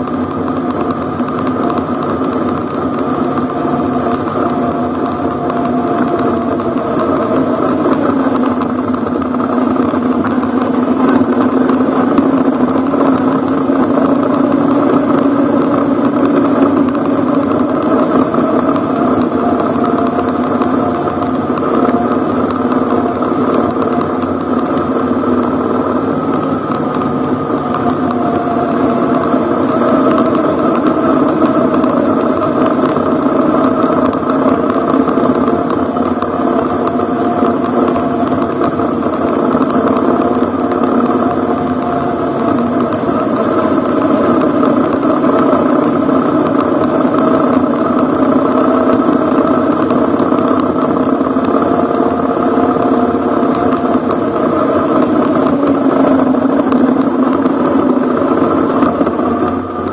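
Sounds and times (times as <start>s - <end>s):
motorcycle engine running: 0.0s - 59.9s
ticks and rattles: 0.0s - 59.9s.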